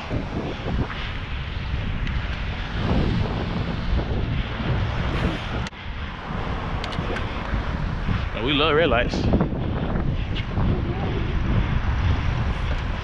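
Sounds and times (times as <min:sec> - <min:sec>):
electric motor and tyre running: 0:00.0 - 0:13.0
wind rushing over microphone: 0:00.0 - 0:13.0.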